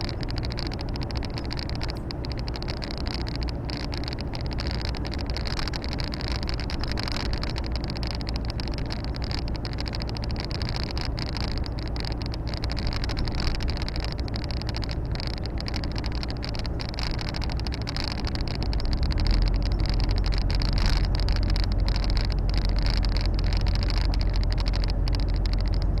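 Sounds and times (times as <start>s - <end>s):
deep hum: 0.0s - 26.0s
truck diesel engine drone: 0.0s - 26.0s.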